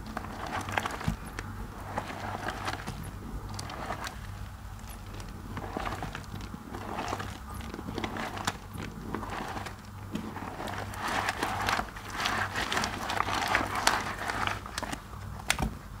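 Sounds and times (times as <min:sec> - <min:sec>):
soap paste squelching: 0:00.0 - 0:15.6.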